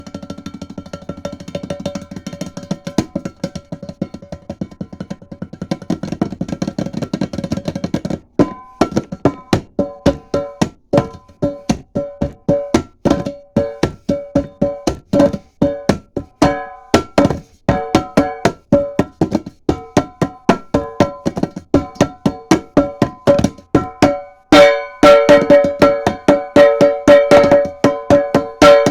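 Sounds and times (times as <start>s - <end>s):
hand drumming on a coffee can: 0.0s - 28.9s.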